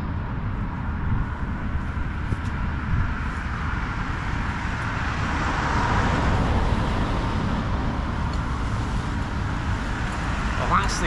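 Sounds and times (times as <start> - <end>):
road traffic noise: 0.0 - 11.0
vehicle passing: 1.1 - 11.0.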